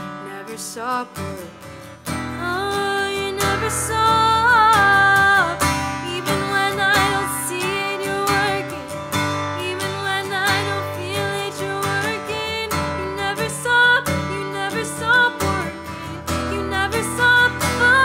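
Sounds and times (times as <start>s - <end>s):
strummed acoustic guitar: 0.0s - 18.0s
woman singing worship song: 2.4s - 9.0s, 9.6s - 18.0s.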